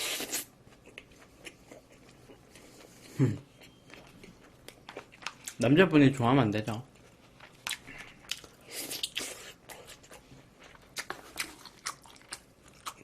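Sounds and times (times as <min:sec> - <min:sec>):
person chewing food: 0:00.0 - 0:05.6, 0:06.9 - 0:13.0.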